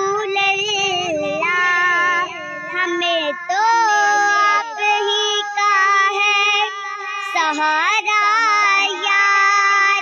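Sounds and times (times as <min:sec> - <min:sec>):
person singing devotional song: 0:00.0 - 0:10.0.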